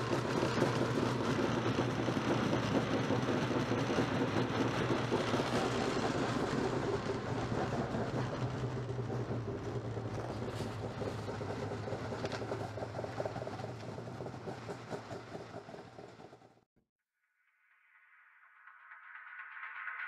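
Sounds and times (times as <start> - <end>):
snowmobile engine droning: 0.0 - 16.6.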